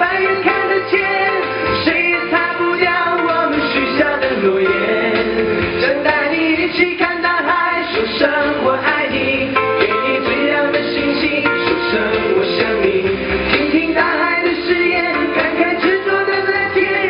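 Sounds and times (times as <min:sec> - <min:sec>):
instrumental backing music: 0:00.0 - 0:17.0
male vocal group singing: 0:00.0 - 0:17.0.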